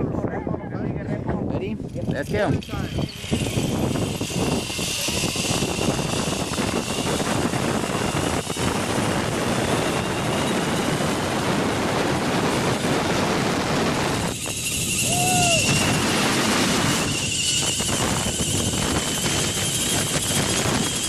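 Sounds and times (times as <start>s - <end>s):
zipline pulleys whirring on cable: 1.9s - 21.0s.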